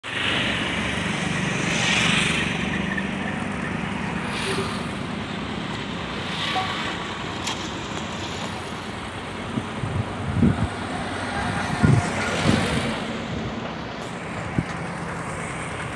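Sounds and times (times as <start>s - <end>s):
road traffic noise: 0.0s - 15.9s.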